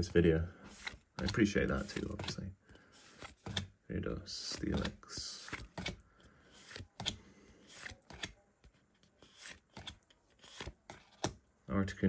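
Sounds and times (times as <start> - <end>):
cards rustling: 0.0 - 11.4
card edges clicking: 0.7 - 3.8, 4.4 - 11.4.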